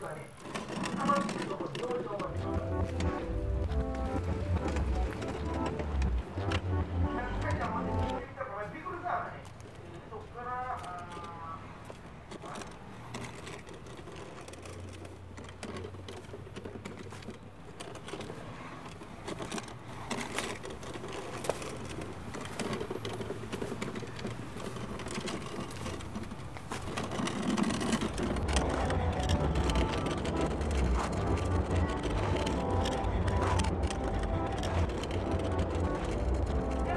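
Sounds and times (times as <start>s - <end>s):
wooden chest scraping over pavement: 0.0s - 36.9s.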